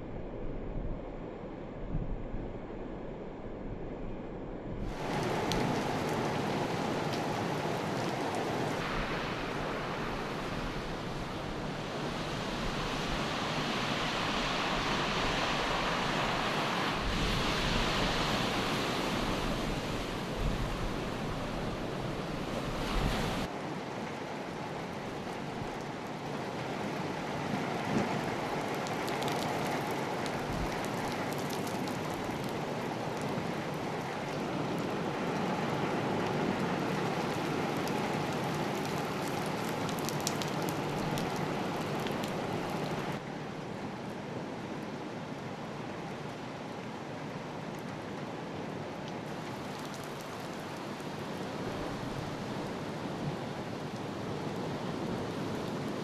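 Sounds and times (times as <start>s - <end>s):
heavy rain: 4.8s - 56.0s.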